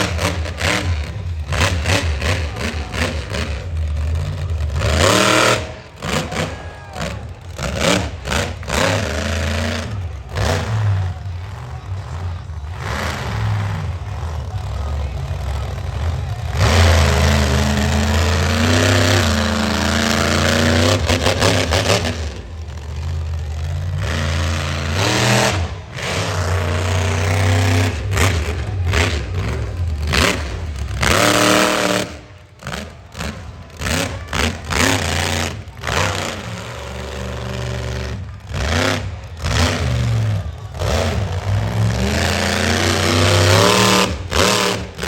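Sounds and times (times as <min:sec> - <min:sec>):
monster truck engine revving: 0:00.0 - 0:45.0.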